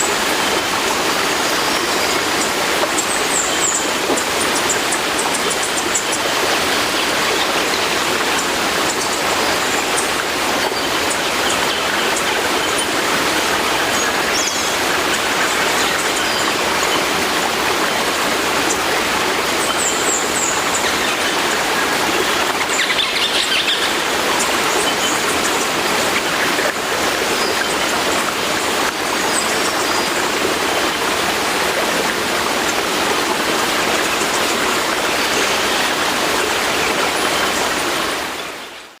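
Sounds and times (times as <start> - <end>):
sea water rushing: 0.0 - 39.0.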